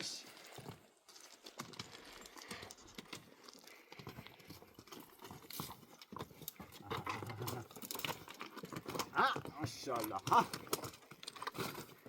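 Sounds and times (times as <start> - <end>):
hooves tapping on stony ground: 0.0 - 12.0.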